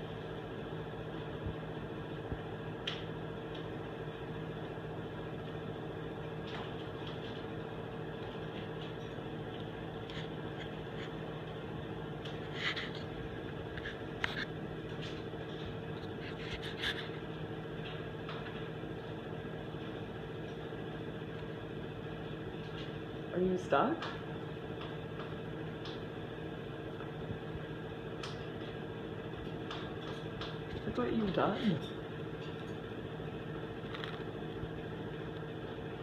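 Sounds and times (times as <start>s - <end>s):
steady indoor hum: 0.0s - 36.0s.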